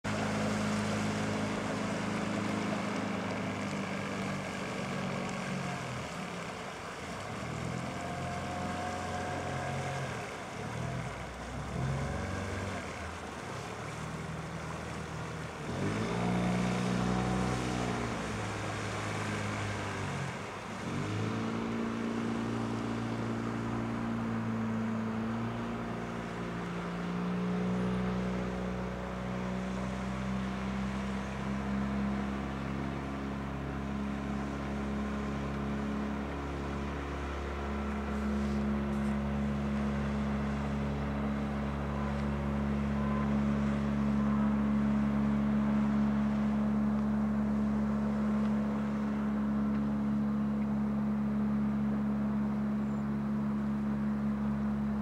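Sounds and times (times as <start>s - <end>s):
outboard motor drone: 0.0s - 55.0s.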